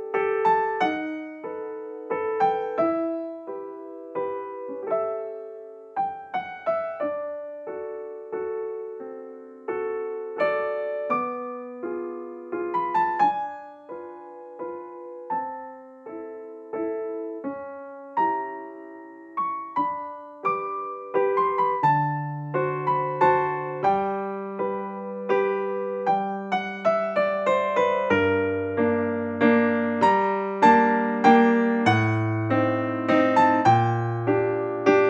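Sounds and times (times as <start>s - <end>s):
slow gentle piano melody: 0.0s - 35.0s.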